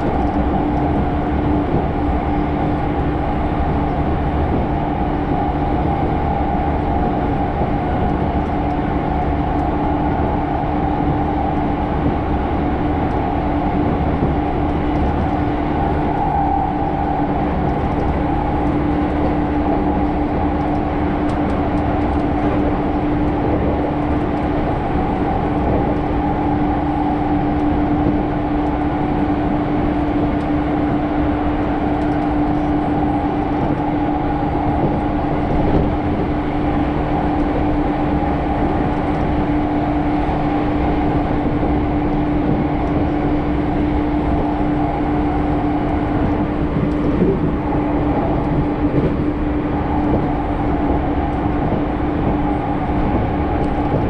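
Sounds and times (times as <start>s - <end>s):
steady hum: 0.0s - 54.0s
train wheels rumbling: 0.0s - 54.0s.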